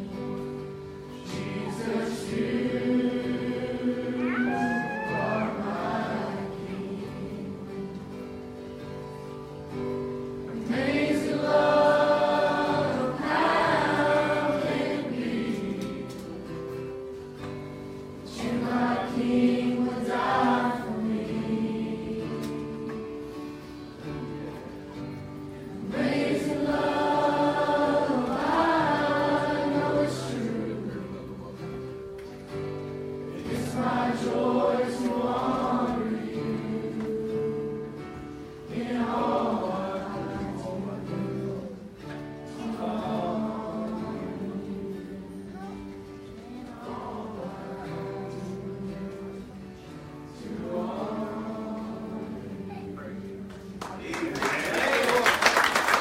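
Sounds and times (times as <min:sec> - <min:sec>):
congregation singing gospel: 0:00.0 - 0:56.0.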